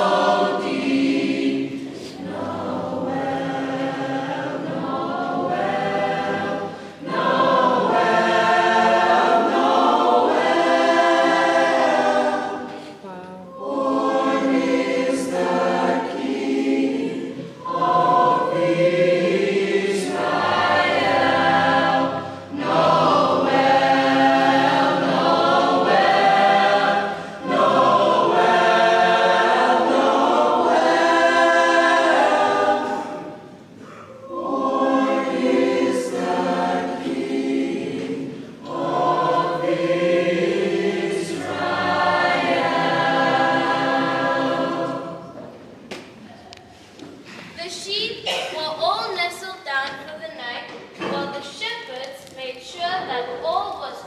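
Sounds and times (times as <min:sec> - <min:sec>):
children's choir singing a carol: 0:00.0 - 0:47.6, 0:48.3 - 0:49.4, 0:50.6 - 0:52.0.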